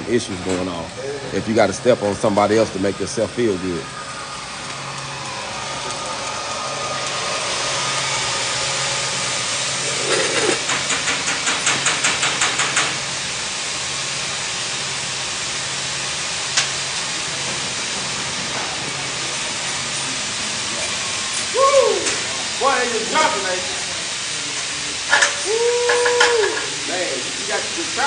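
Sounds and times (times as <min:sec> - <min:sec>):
welding arc crackling and hissing: 0:00.0 - 0:28.0.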